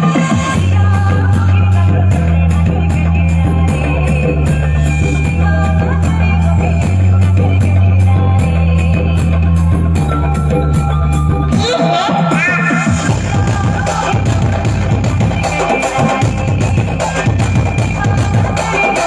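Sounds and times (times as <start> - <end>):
loud music with heavy bass: 0.0 - 19.0.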